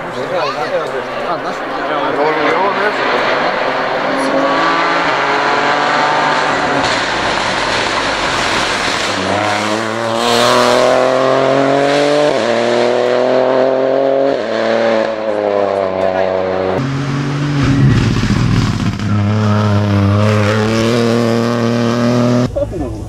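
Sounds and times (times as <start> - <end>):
rally car engine revving: 1.6 - 23.0.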